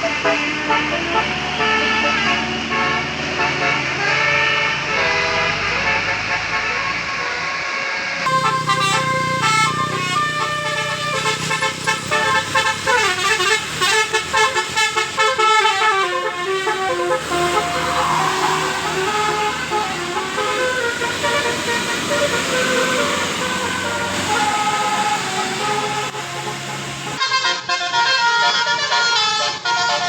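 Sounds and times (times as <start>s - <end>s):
bus engine hum: 0.0s - 30.0s
multi-tone musical air horn: 0.0s - 30.0s.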